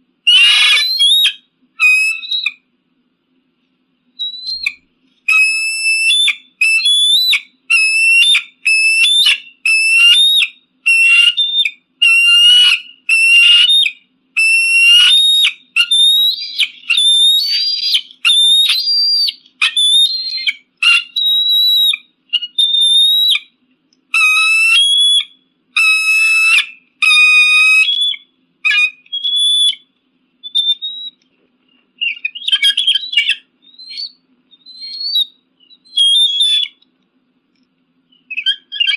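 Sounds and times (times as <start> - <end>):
eagle piping whistles: 0.2 - 2.7, 4.2 - 36.8, 38.1 - 38.9.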